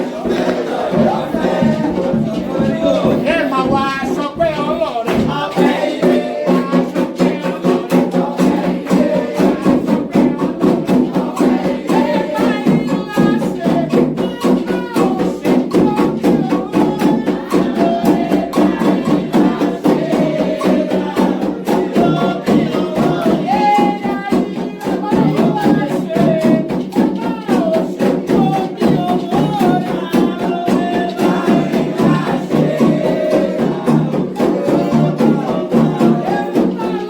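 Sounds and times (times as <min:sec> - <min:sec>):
hand drums fast rhythm: 0:00.0 - 0:37.0
voices singing a chant: 0:00.0 - 0:37.0.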